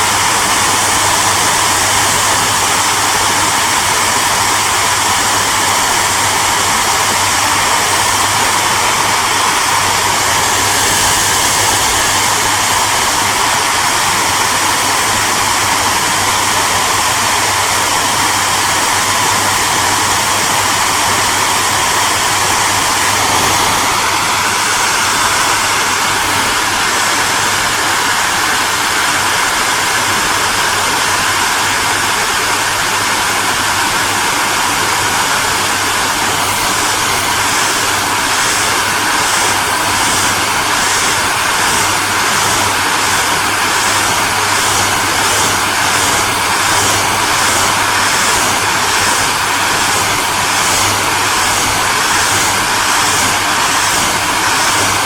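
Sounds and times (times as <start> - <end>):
hairdryer running: 0.0 - 55.0.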